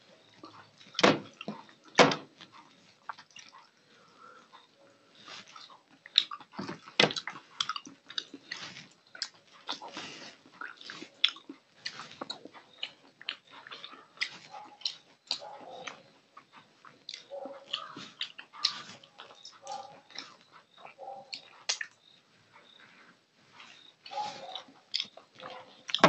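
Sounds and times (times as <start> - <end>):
chewing and lip smacks: 0.2 - 22.8, 23.6 - 26.0.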